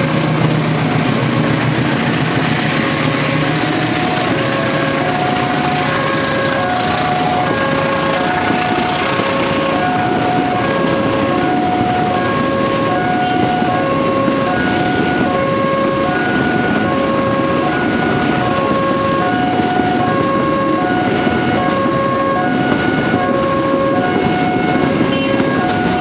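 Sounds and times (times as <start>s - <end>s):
train wheels rumbling on rail: 0.0s - 26.0s
level crossing alarm two tones: 2.6s - 26.0s.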